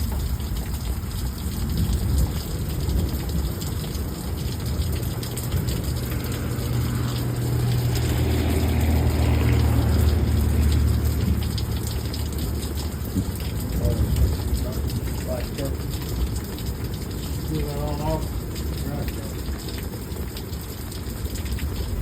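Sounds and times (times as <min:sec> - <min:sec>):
heavy rain: 0:00.0 - 0:22.0
low steady rumble: 0:00.0 - 0:22.0
rushing floodwater: 0:00.0 - 0:22.0.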